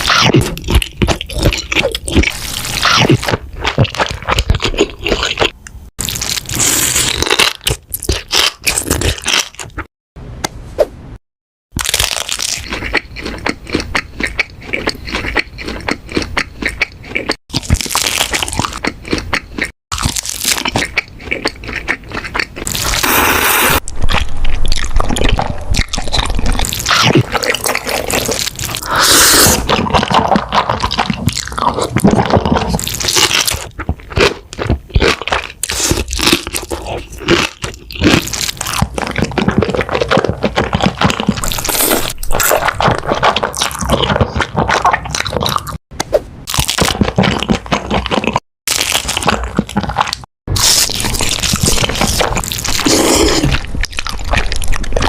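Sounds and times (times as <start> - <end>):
crunching bites and chewing: 0.0 - 9.9, 11.8 - 55.0.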